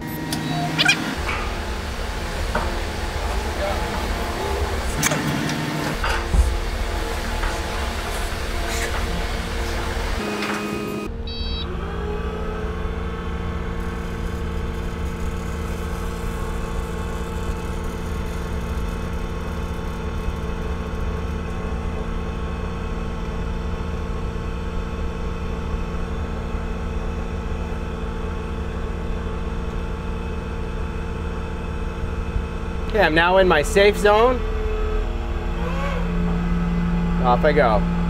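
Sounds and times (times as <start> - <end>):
loader engine running: 0.0 - 38.0
vacuum pump drone: 0.0 - 38.0.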